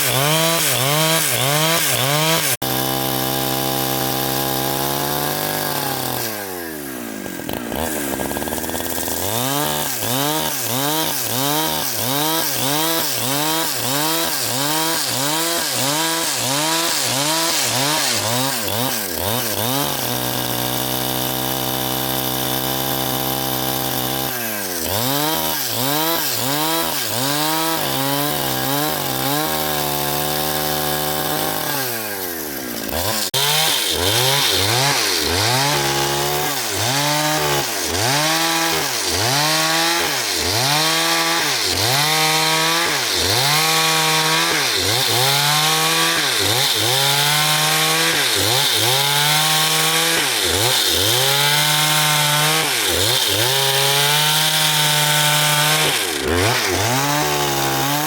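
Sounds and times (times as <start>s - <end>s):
engine-driven saw cutting log: 0.0s - 58.0s.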